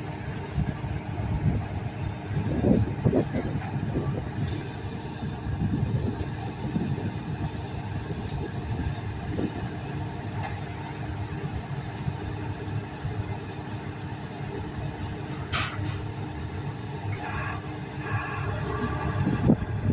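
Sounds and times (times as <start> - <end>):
heavy machinery engine rumbling: 0.0 - 19.9.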